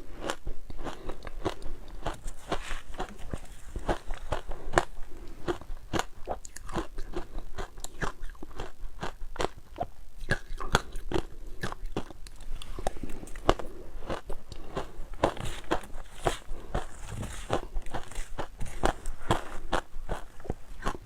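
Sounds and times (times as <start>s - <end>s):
ice crunching while chewed: 0.0s - 21.0s.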